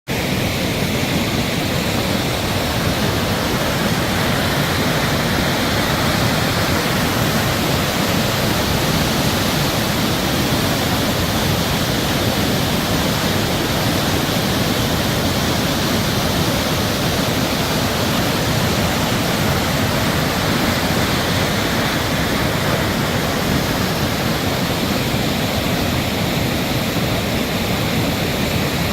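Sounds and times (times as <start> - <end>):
creek high water rushing: 0.1 - 28.9.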